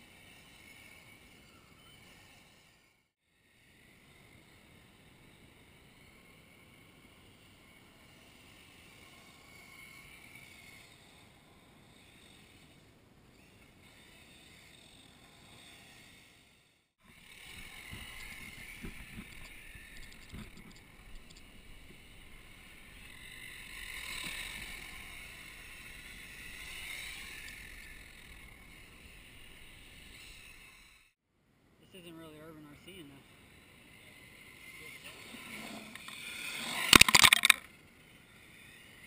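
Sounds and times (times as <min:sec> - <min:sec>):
radio-controlled car motor whine: 0:00.1 - 0:31.1, 0:32.8 - 0:39.0.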